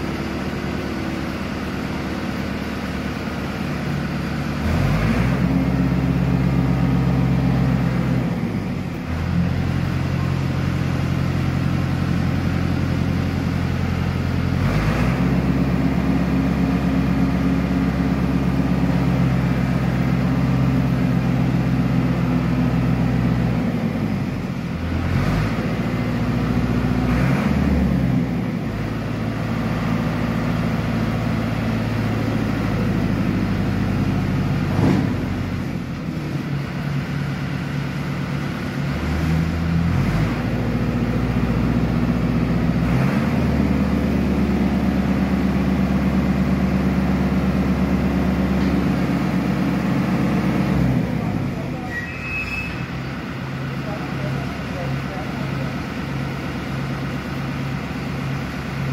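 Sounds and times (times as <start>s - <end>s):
tractor diesel engine: 0.0s - 58.9s.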